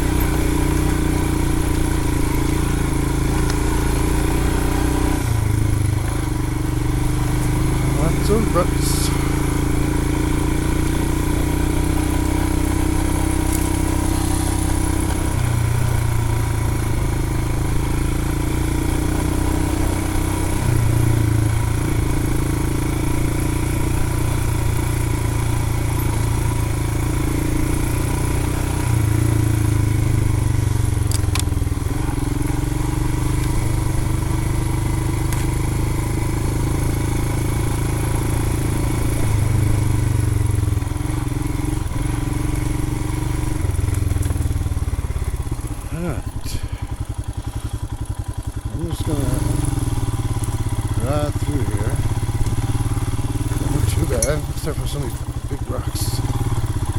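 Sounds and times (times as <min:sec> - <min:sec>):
motorcycle engine at low revs: 0:00.0 - 0:56.9.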